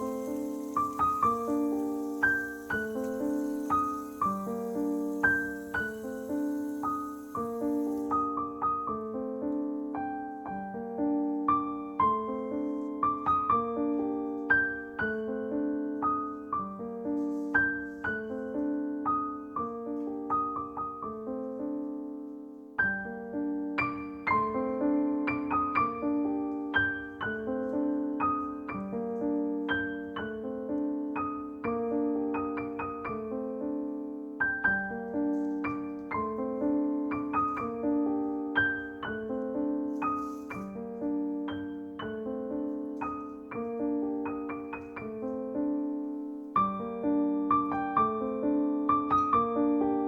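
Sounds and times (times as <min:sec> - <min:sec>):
slow gentle piano melody: 0:00.0 - 0:50.0.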